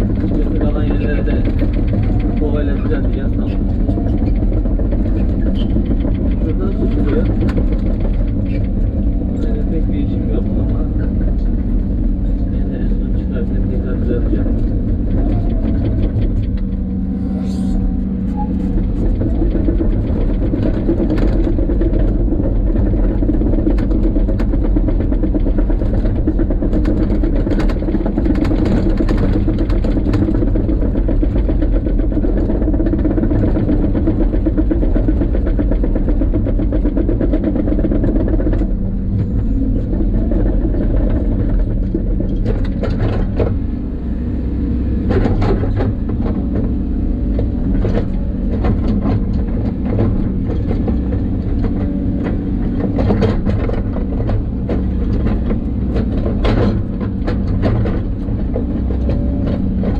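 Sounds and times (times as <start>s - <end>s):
vehicle engine rumble and hum: 0.0s - 59.9s.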